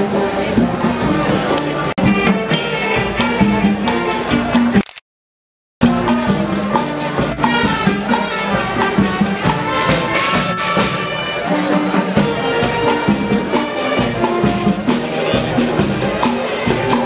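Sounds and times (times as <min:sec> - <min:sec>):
music playing: 0:00.0 - 0:04.8, 0:05.8 - 0:17.0.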